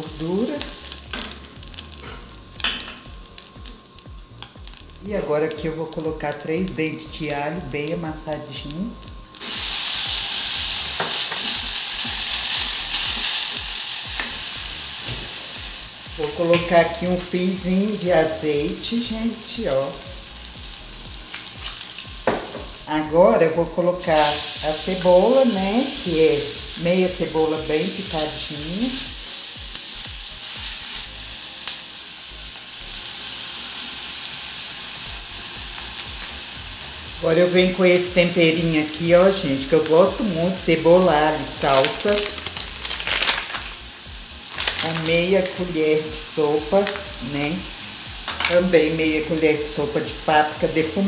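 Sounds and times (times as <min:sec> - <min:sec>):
garlic sizzling in fat: 0:00.0 - 0:51.0.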